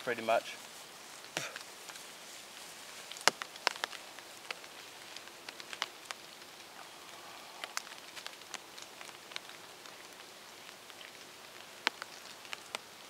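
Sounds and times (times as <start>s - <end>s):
faint steady hiss: 0.0s - 13.0s
water drops ticking on leaf litter: 0.0s - 13.0s.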